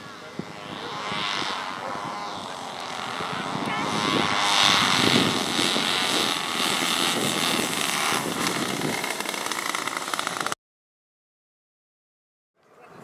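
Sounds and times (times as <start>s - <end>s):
model airplane engines and propellers: 0.0s - 10.6s.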